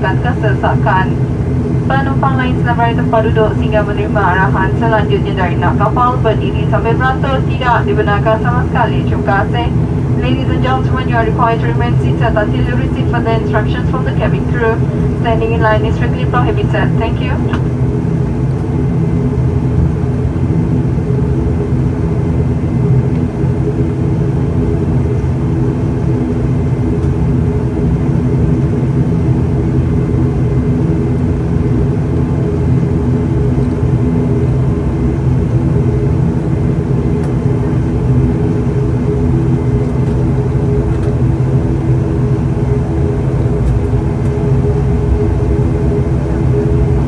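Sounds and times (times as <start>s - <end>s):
turboprop engine humming: 0.0s - 47.0s.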